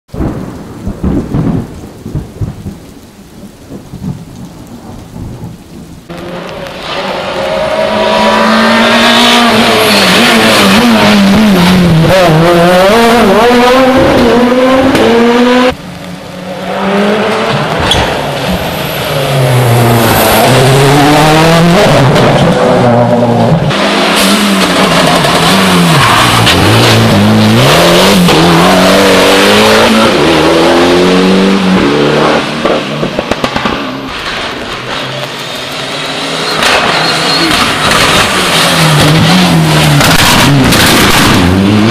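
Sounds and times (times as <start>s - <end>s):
rally cars revving past: 6.1s - 41.9s.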